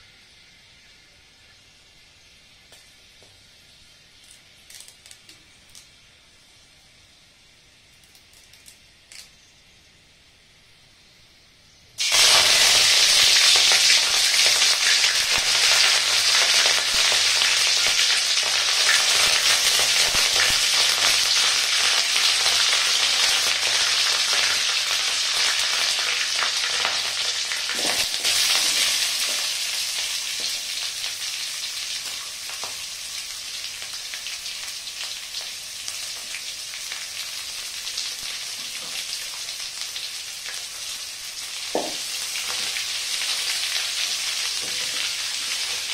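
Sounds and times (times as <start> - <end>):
hot oil frying: 0.0 - 11.1, 11.9 - 45.9.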